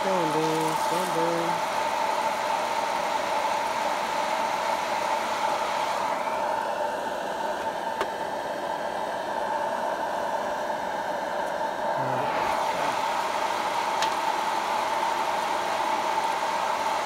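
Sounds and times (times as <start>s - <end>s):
coffee roaster whirring: 0.0s - 17.0s.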